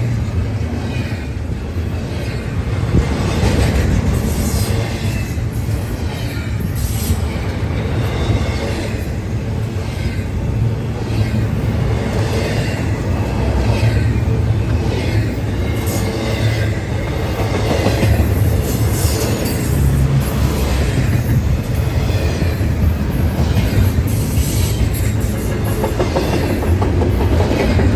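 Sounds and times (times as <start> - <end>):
freight train wheels rumbling: 0.0 - 27.9.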